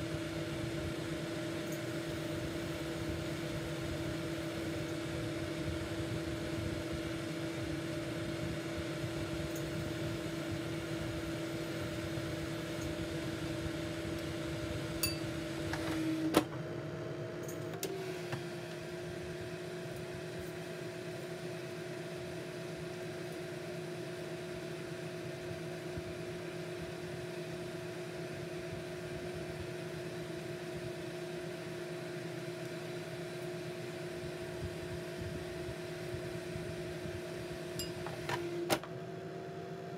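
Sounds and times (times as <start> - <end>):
kitchen appliance fan motor humming: 0.0 - 39.9.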